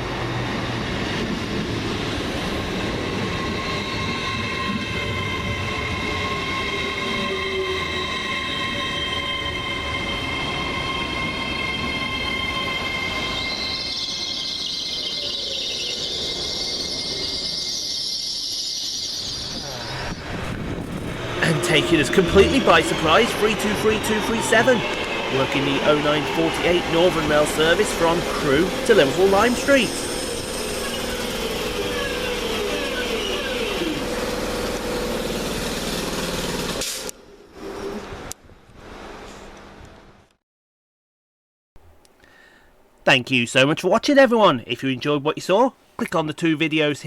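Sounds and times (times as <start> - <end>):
train wheels squealing on rails: 0.0 - 38.0.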